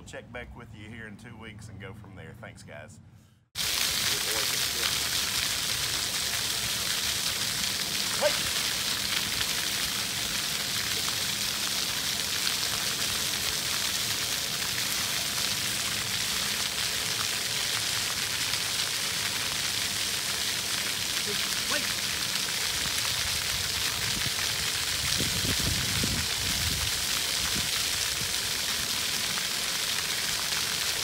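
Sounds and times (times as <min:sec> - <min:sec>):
fountain jets splashing: 0:03.6 - 0:31.0.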